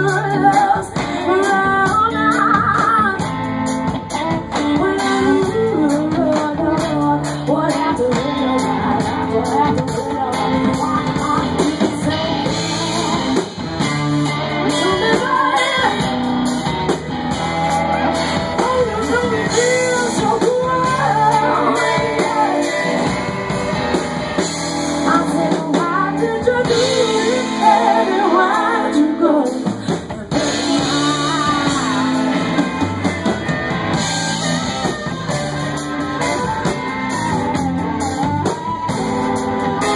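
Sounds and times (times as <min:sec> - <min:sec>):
person singing: 0:00.0 - 0:03.4, 0:04.1 - 0:16.7, 0:18.1 - 0:39.9
live rock band playing: 0:00.0 - 0:39.9.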